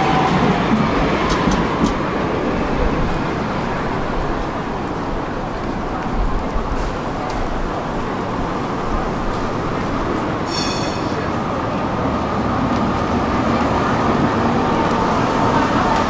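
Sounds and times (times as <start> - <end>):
street and crowd noise: 0.0 - 16.0
tram electrical hum: 0.0 - 16.0.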